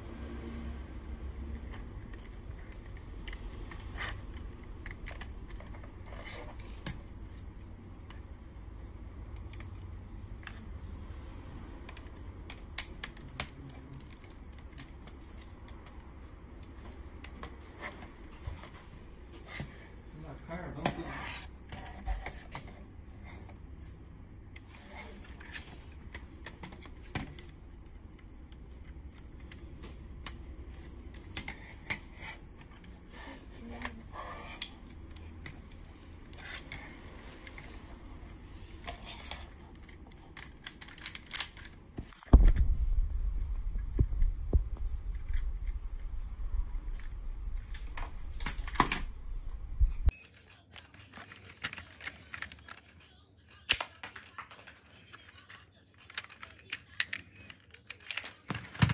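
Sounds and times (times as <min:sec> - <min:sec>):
steady low hum: 0:00.0 - 0:50.1.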